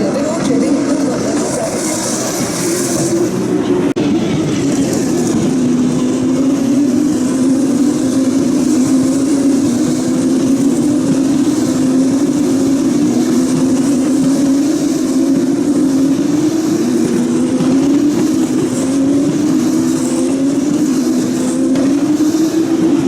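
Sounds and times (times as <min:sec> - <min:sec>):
race car engines running: 0:00.0 - 0:23.0.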